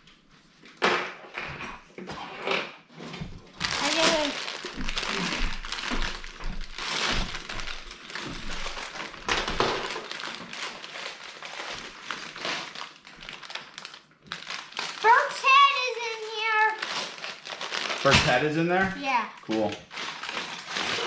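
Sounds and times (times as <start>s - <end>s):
plastic bags crinkling: 3.5s - 21.0s.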